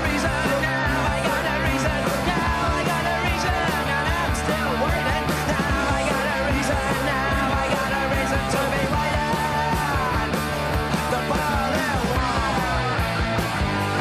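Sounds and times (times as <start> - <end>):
person singing: 0.0 - 10.4, 11.0 - 12.9
punk rock band playing: 0.0 - 14.0
steady drum beat: 0.0 - 14.0.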